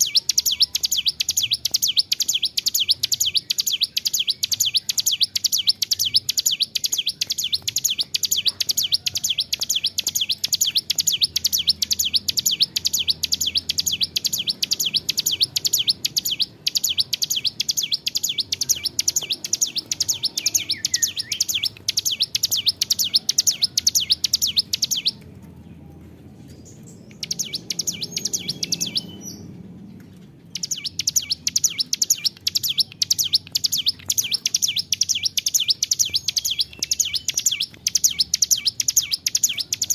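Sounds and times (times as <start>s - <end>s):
bird singing rapid high chirps: 0.0s - 25.3s, 26.6s - 39.9s.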